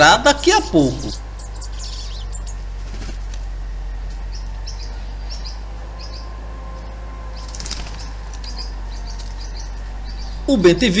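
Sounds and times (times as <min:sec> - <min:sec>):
steady low drone: 0:00.0 - 0:11.0
bird chirping: 0:00.1 - 0:11.0.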